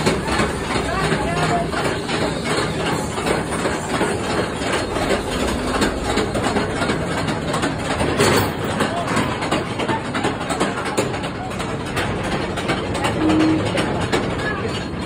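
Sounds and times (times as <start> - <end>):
train cars rumbling on track: 0.0 - 15.0.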